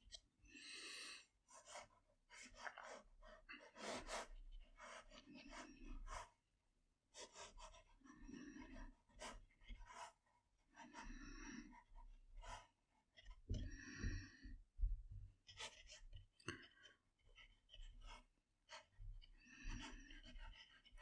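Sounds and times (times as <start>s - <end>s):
soft breaths: 0.5s - 6.4s, 7.2s - 21.0s
paintbrush scratching on paper: 1.4s - 6.4s, 7.1s - 13.5s, 15.4s - 21.0s.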